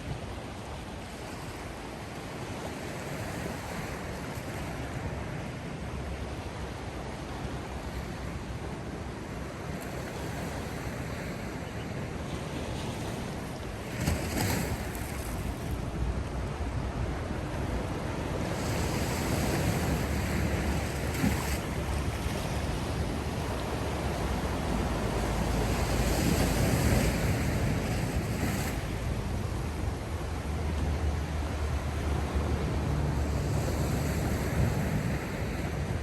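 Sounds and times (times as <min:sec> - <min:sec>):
sea surf washing onto shore: 0:00.0 - 0:36.0
wind rumble on microphone: 0:00.0 - 0:36.0.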